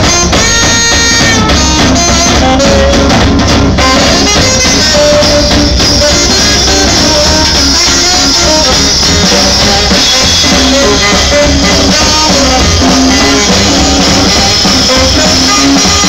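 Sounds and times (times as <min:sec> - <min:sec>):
drum kit: 0:00.0 - 0:16.0
saxophone holding notes: 0:00.0 - 0:16.0
swing jazz band playing: 0:00.0 - 0:16.0.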